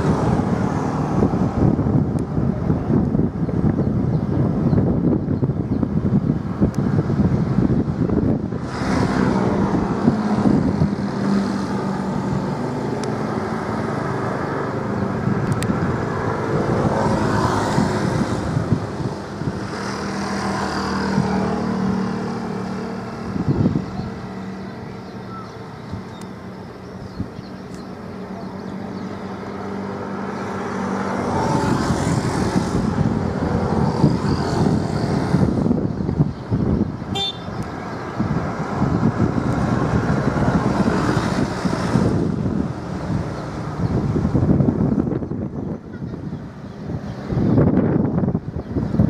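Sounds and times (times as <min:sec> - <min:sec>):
road vehicles passing close by: 0:00.0 - 0:49.0.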